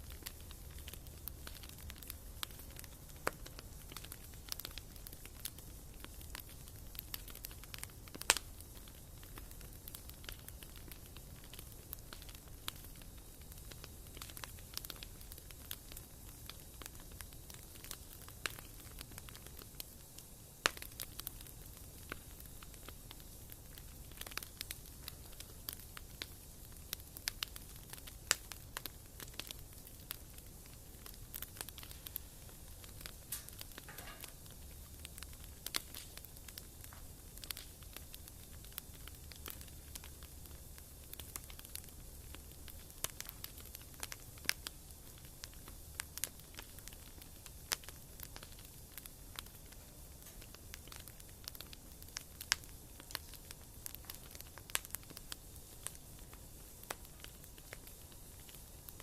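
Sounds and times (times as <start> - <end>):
fire sharp snaps: 0.0 - 59.0
wood fire crackling: 0.0 - 59.0.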